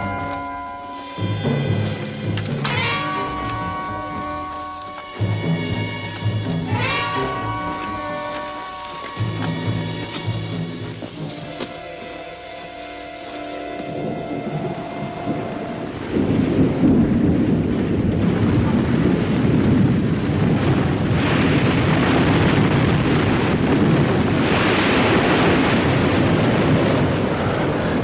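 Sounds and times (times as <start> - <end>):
avalanche deep rumble: 0.0 - 28.0.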